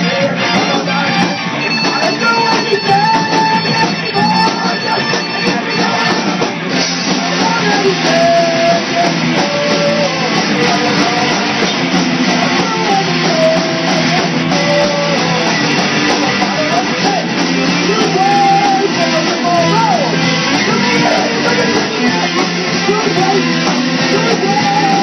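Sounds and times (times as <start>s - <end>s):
live rock band playing: 0.0s - 25.0s
sliding lead guitar notes: 0.0s - 25.0s.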